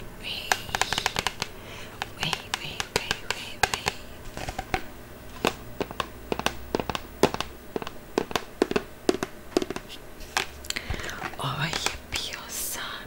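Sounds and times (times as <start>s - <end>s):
sharp taps and clicks: 0.5s - 12.0s.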